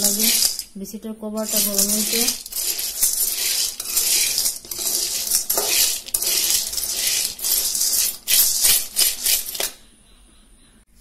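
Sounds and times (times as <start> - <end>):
beans rattling in a metal wok: 0.0 - 0.8, 1.4 - 9.8
metal spatula stirring: 0.0 - 0.8, 1.4 - 9.8.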